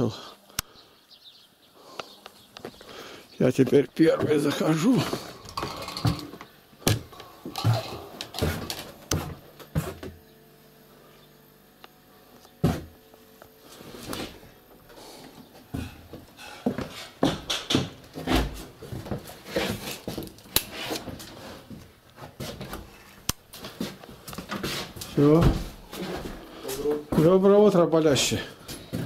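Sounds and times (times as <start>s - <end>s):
footsteps with knocks and rustling: 2.0s - 10.3s, 12.5s - 29.0s.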